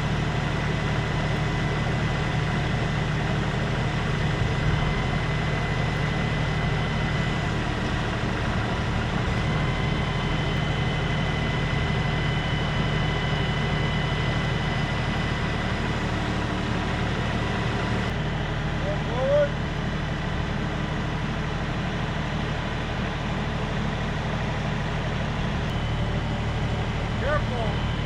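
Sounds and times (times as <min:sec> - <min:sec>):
thin steady whine: 0:00.0 - 0:28.0
tractor engine running: 0:00.0 - 0:28.0.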